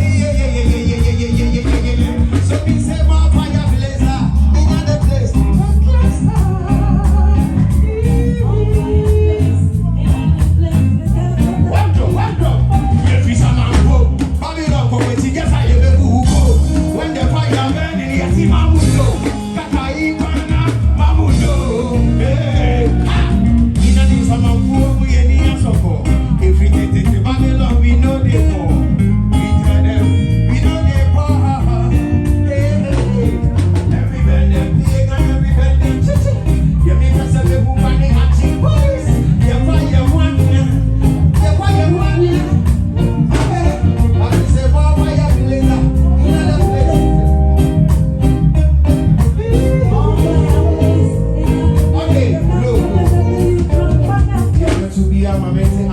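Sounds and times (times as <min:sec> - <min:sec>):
heavy pulsing bass line: 0:00.0 - 0:55.9
reggae music with singing: 0:00.0 - 0:55.9.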